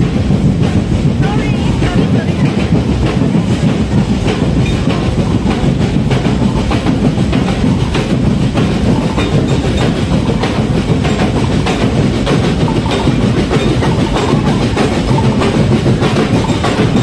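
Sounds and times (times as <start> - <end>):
percussion band drumming: 0.0 - 17.0
crowd voices: 1.2 - 17.0.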